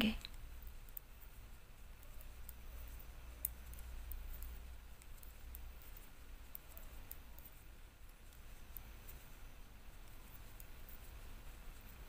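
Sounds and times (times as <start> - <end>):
knitting needles clicking: 0.0 - 12.0
low steady hum: 0.0 - 12.0.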